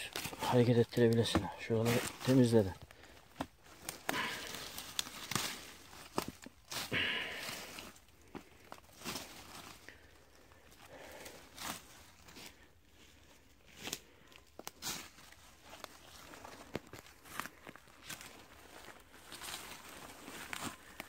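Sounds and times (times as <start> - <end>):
footsteps crunching on leaf litter: 0.0 - 2.8, 3.4 - 10.0, 11.0 - 21.0
twigs clicking and snapping: 0.0 - 10.1, 13.7 - 21.0.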